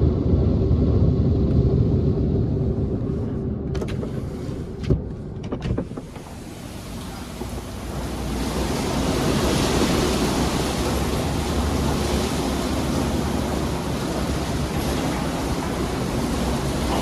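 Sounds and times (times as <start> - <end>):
car wash water spraying: 2.5 - 17.0.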